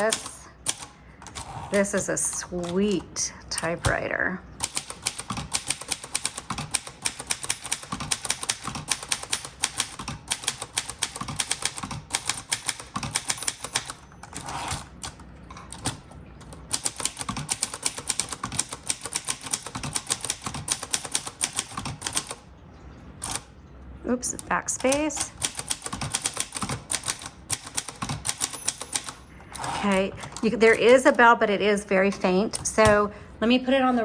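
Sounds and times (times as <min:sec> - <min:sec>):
manual typewriter typing: 0:00.0 - 0:22.5, 0:23.2 - 0:23.5, 0:24.3 - 0:31.4.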